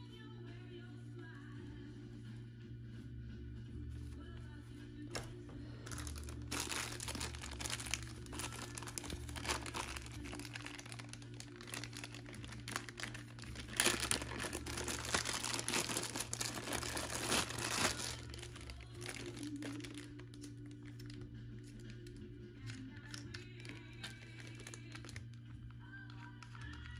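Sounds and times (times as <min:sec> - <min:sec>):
plastic bag crinkling: 0:05.1 - 0:26.9.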